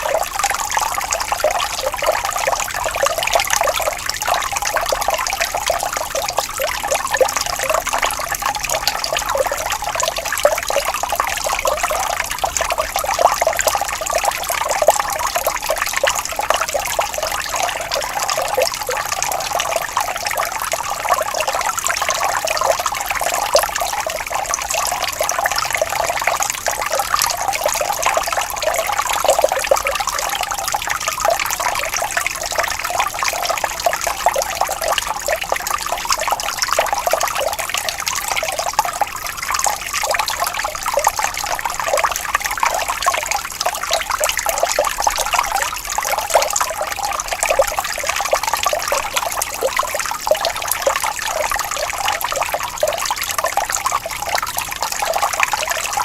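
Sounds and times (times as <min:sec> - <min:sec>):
water flowing gently: 0:00.0 - 0:56.0.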